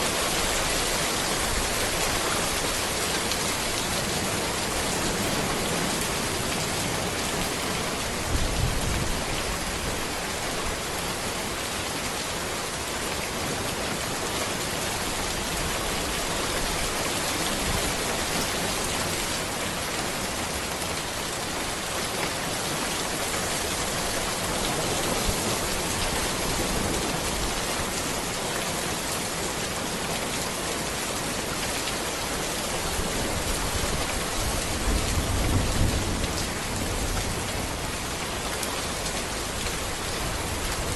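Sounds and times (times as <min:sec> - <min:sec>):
rain falling on a road: 0:00.0 - 0:40.9.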